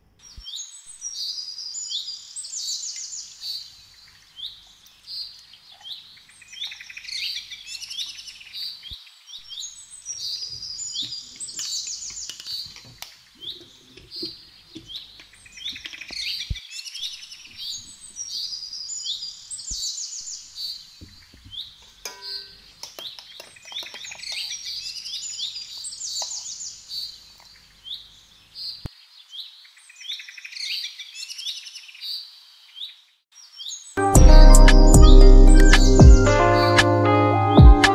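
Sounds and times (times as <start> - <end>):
small birds chirping and trilling: 0.0 - 36.9.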